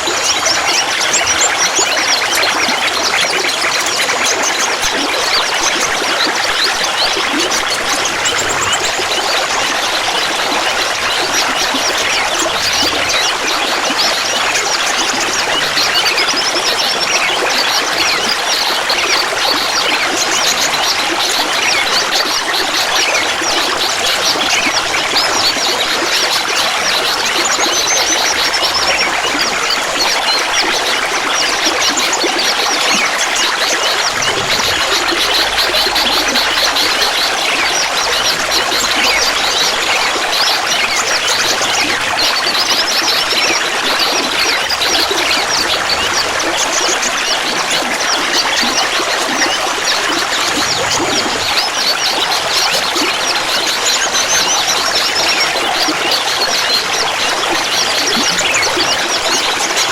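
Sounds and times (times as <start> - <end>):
water trickling and gurgling: 0.0 - 59.9.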